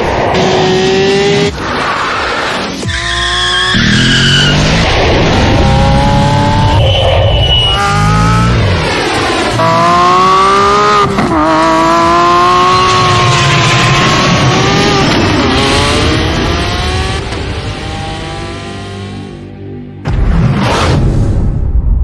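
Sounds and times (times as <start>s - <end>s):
car engine accelerating hard: 0.0s - 2.8s, 3.4s - 6.8s, 7.7s - 19.3s.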